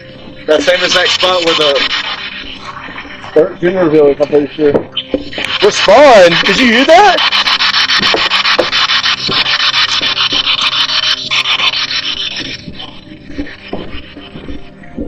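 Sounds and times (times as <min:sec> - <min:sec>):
pulsing radio static: 0:00.0 - 0:14.6.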